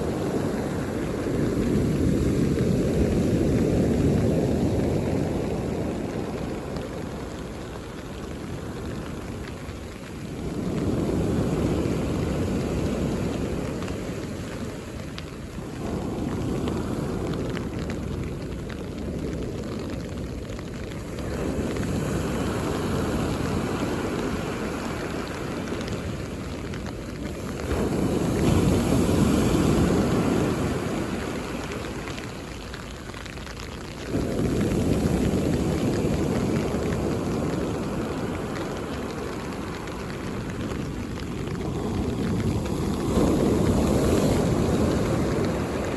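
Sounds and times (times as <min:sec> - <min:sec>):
sea waves breaking on beach: 0:00.0 - 0:45.9.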